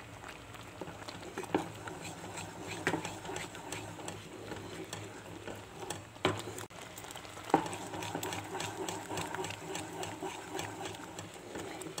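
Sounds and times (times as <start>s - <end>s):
sauce simmering and popping: 0.0s - 12.0s
spatula stirring in pan: 0.2s - 12.0s.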